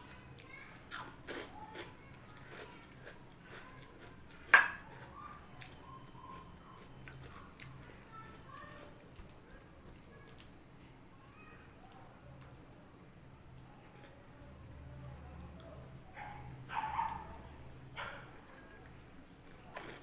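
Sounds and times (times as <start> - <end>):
chewing and wet smacking: 0.1 - 14.3, 15.0 - 20.0.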